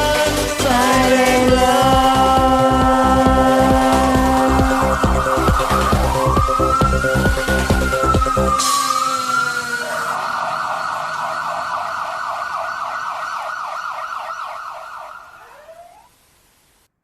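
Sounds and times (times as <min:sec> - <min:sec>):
emergency siren fast yelp: 0:01.7 - 0:16.2.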